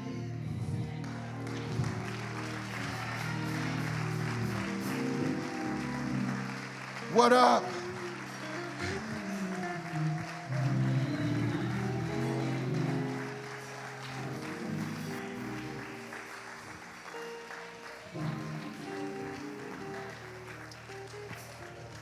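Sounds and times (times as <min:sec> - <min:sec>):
instrumental church music: 0:00.0 - 0:22.0
congregation applauding: 0:01.0 - 0:22.0.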